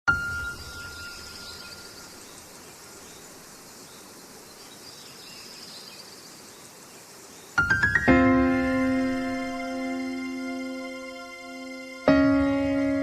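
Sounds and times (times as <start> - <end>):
insects chirping: 0.1 - 13.0
steady hiss: 0.2 - 13.0.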